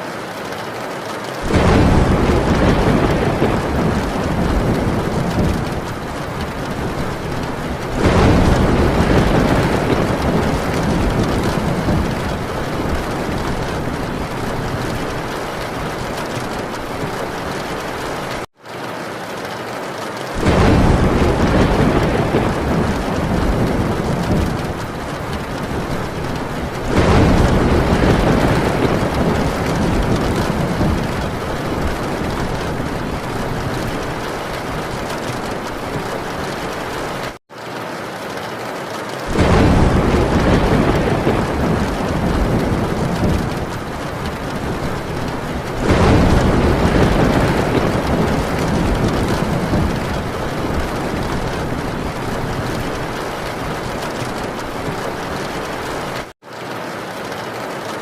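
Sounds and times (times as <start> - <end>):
heavy rain on a tin roof: 0.0 - 58.0
rolling thunder: 1.4 - 18.5, 20.4 - 37.4, 39.3 - 56.3.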